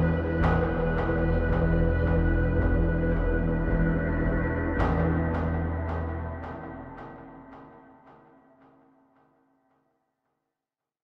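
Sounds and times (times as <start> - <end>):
low sustained music tones: 0.0 - 9.0.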